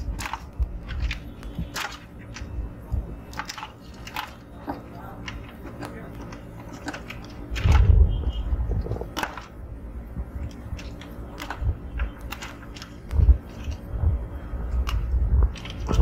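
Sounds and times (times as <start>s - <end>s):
hands handling circuit board: 0.0s - 9.6s, 10.2s - 16.0s.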